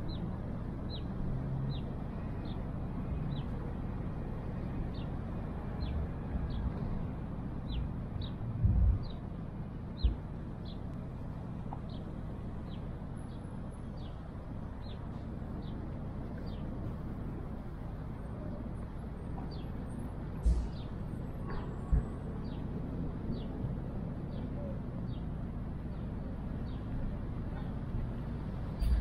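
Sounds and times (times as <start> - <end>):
distant traffic rumble: 0.0 - 29.0.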